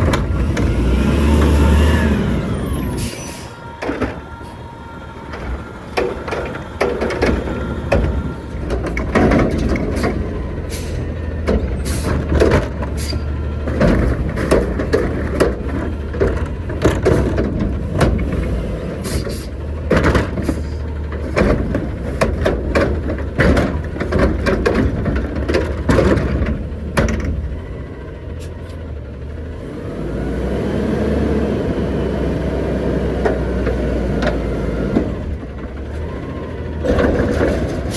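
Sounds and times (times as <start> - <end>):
garbage truck engine running: 0.0 - 37.9
trash loading bangs and clatter: 0.0 - 37.9.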